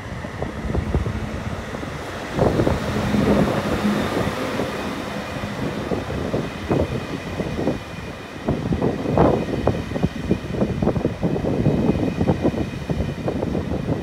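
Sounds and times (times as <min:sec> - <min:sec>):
locomotive low hum: 0:00.0 - 0:12.2.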